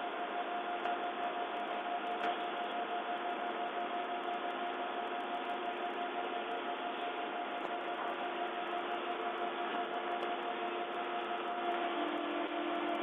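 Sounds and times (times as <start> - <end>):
faint constant hum: 0.0 - 13.0.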